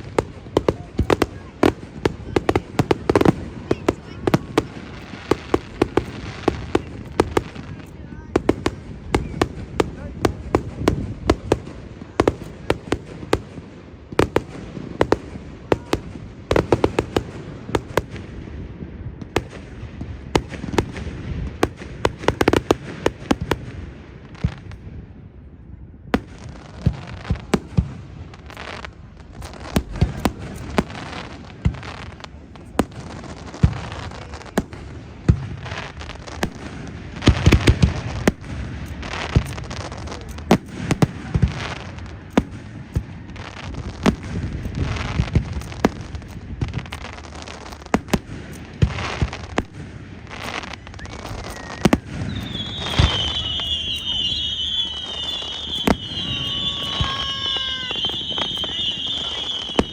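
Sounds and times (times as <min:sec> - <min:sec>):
fireworks bursts and bangs: 0:00.0 - 0:59.9
fireworks rumble and crackle: 0:00.0 - 0:59.9.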